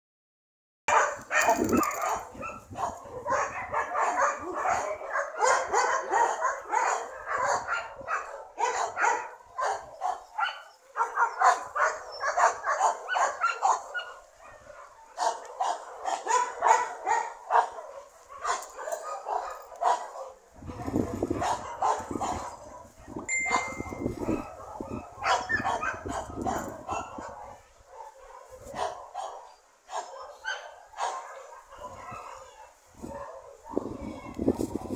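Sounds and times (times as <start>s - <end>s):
dogs barking and yipping: 0.9s - 34.9s.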